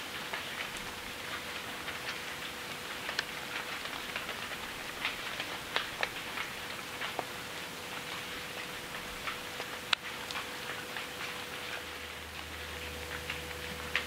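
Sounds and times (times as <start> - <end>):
rain on a wet path: 0.0 - 14.0.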